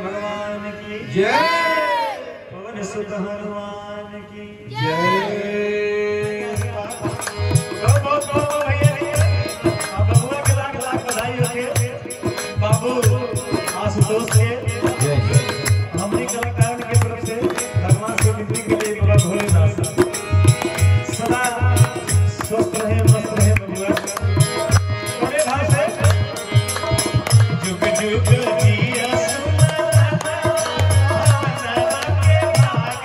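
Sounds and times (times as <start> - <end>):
harmonium chords: 0.0 - 1.5, 3.4 - 33.0
sharp percussion clicks: 6.2 - 33.0
hand drum beating rhythm: 6.6 - 33.0.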